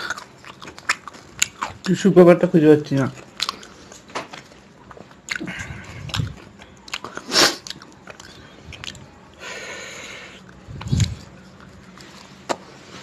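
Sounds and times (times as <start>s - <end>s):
wet chewing and lip smacks: 0.0s - 2.1s, 3.0s - 9.4s, 10.3s - 12.8s.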